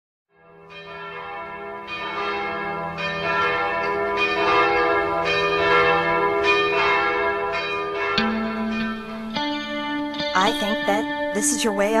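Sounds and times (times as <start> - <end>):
church bells ringing: 0.3 - 12.0.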